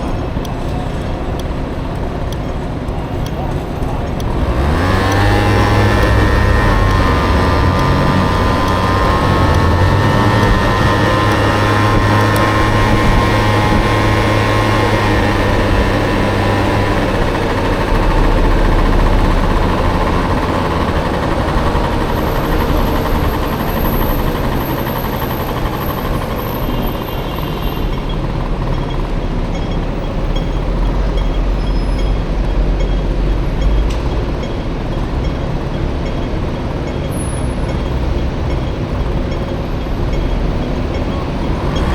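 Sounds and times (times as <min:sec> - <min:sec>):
road and wind rush: 0:00.0 - 0:41.9
two-stroke scooter engine: 0:00.0 - 0:41.9.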